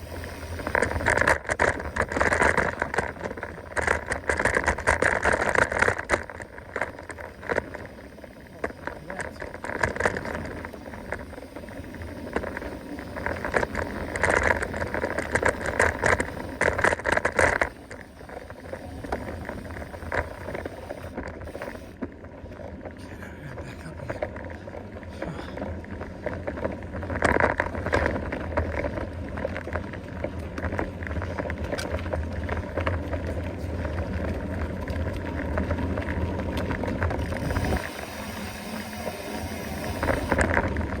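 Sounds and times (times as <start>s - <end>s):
bike rattling and clicking: 0.0s - 41.0s
bike tyres rolling on dirt: 0.0s - 41.0s.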